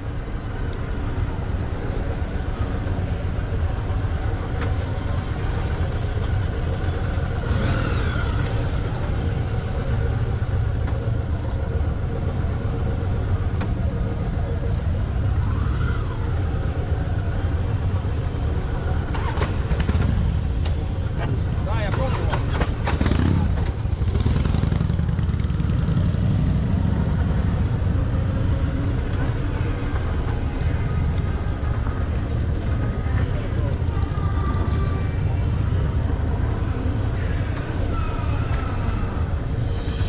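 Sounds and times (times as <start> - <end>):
motorcycle engine running: 1.2 - 40.0.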